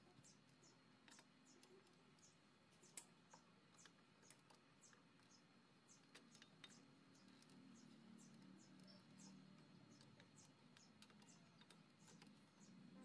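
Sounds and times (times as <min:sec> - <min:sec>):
faint high chirps: 0:00.0 - 0:13.0
sharp clicks: 0:00.5 - 0:12.8.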